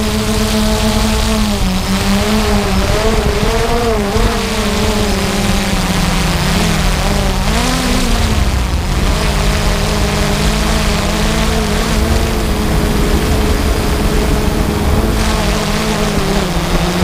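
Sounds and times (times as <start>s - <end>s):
constant rushing noise: 0.0s - 17.0s
engine running loudly: 0.0s - 17.0s.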